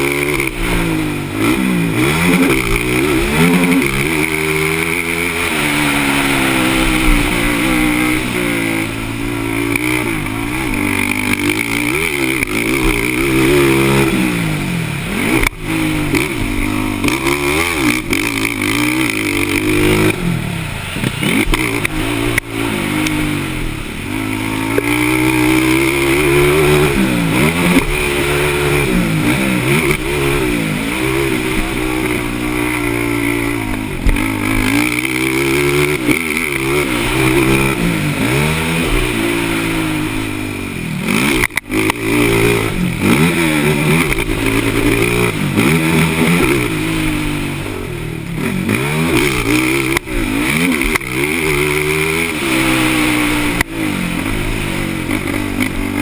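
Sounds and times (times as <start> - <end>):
quad engines revving: 0.0 - 56.0.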